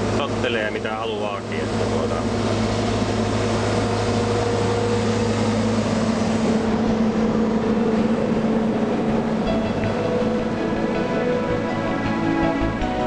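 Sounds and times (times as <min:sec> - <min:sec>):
excavator diesel engine humming: 0:00.0 - 0:13.0.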